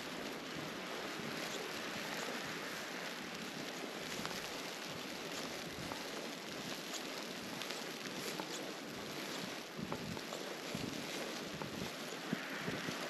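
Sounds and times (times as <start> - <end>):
footsteps in snow: 0.0 - 13.0
wind and blowing snow: 0.0 - 13.0.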